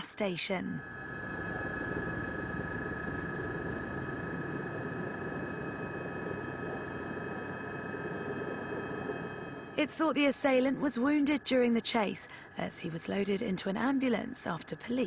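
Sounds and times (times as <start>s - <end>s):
helicopter drone: 0.8s - 15.0s.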